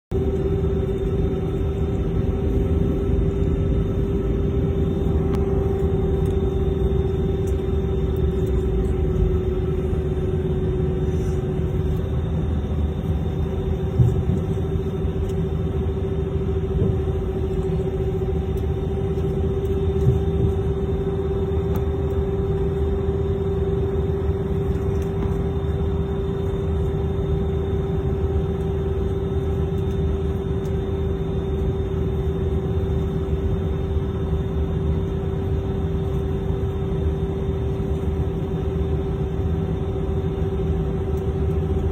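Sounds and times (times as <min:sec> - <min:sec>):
jet engines running: 0:00.1 - 0:41.9.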